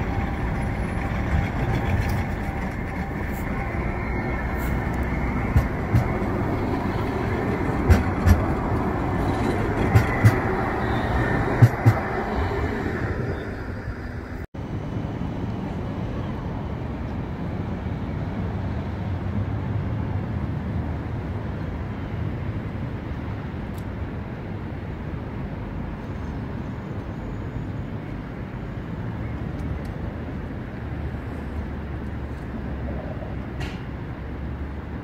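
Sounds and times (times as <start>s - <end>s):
tram wheels rumbling on rail: 0.0s - 35.0s.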